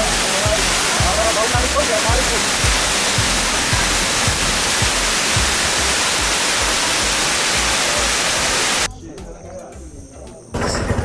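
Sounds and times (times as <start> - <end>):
waterfall rushing: 0.0 - 8.9
background music with low beat: 0.0 - 10.6.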